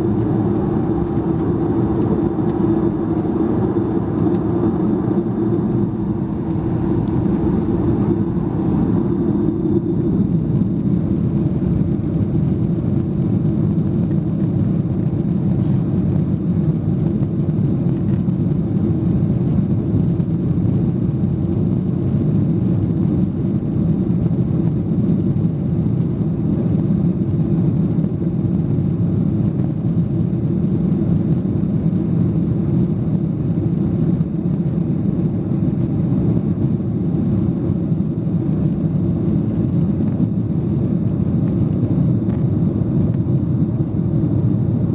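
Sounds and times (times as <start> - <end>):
airplane cabin jet engine rumble: 0.0 - 44.9.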